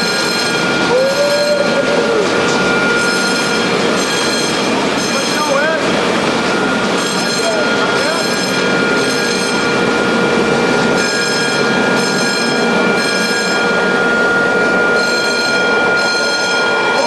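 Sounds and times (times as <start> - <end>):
continuous high tone: 0.0 - 17.0.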